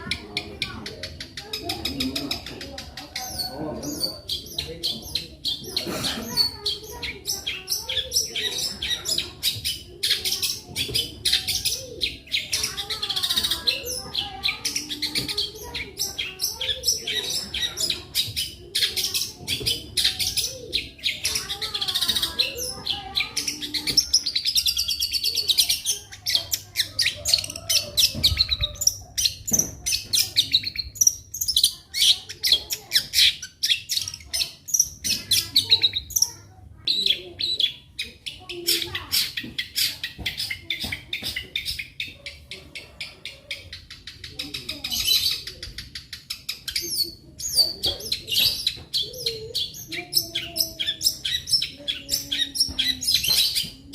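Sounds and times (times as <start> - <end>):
bird singing chirps and trills: 0.0 - 53.9.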